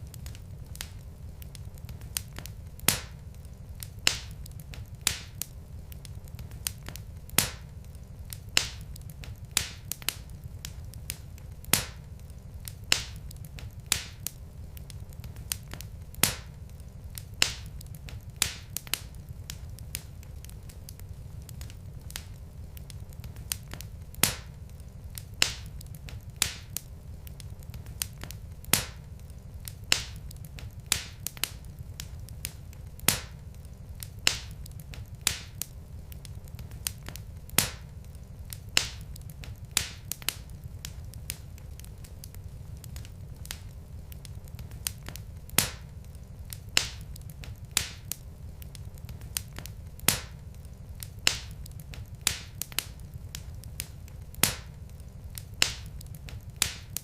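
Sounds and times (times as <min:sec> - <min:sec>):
fire low rumble: 0:00.0 - 0:57.0
log fire crackling and popping: 0:00.0 - 0:57.0.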